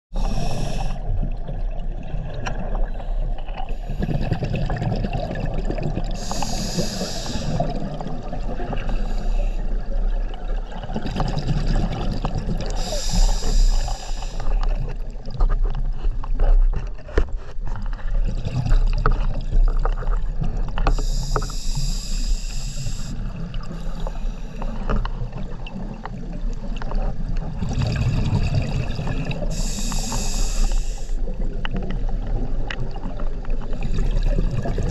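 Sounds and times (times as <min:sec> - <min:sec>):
low rumble of water: 0:00.1 - 0:34.9
exhaled bubbles hissing: 0:00.2 - 0:15.4, 0:18.1 - 0:34.9.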